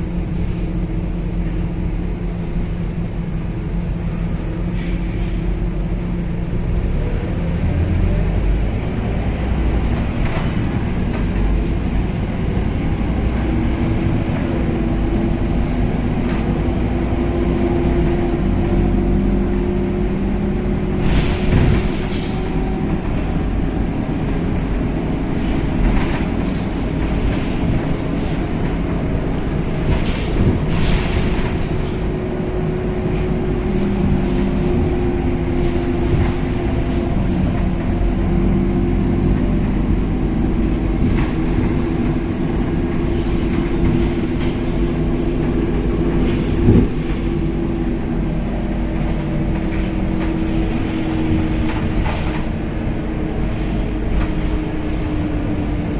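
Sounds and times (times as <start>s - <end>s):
bus engine droning: 0.0s - 55.9s
road noise: 0.0s - 55.9s.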